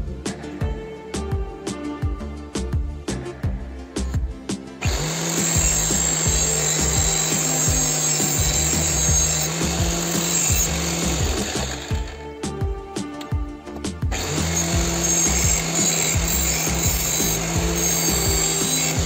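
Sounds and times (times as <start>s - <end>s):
background music with steady beat: 0.0s - 19.0s
angle grinder grinding steel: 3.3s - 19.0s.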